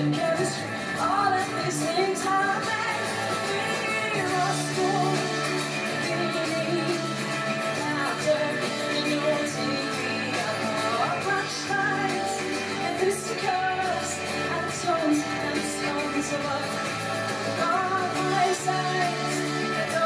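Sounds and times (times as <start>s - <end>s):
live pop-rock band: 0.0s - 20.0s
person singing: 0.0s - 20.0s.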